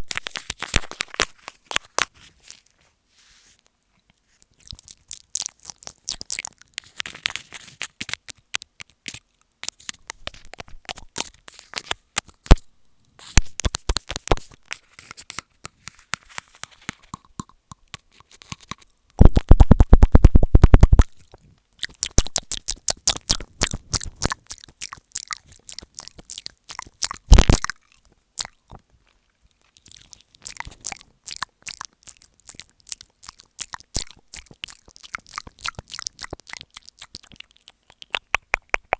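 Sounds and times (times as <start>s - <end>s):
wet mouth clicks and smacks: 4.4s - 12.7s, 13.4s - 28.9s, 29.5s - 38.9s.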